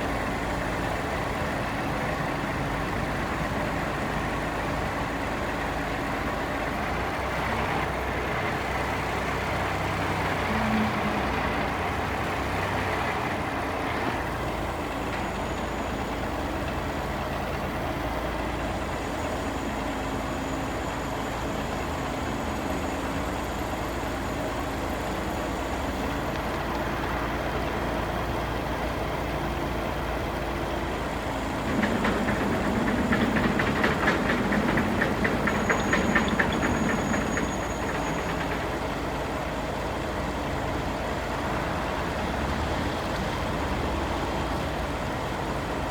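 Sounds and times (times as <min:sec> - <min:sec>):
diesel engine running: 0:00.0 - 0:45.9
rapid even engine clatter: 0:00.1 - 0:27.9, 0:29.6 - 0:45.9.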